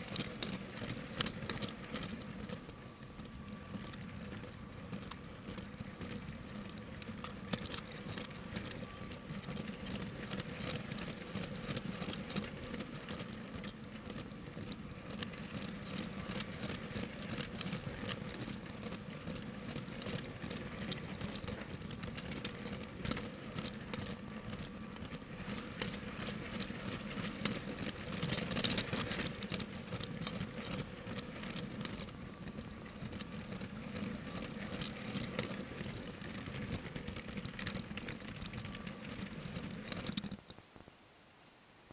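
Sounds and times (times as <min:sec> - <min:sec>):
toy train clattering on track: 0:00.0 - 0:40.6
faint steady whine: 0:00.0 - 0:41.9.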